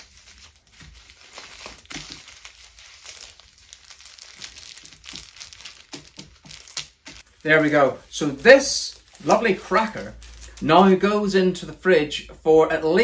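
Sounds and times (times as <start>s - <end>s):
cling film crinkling: 0.0s - 11.8s.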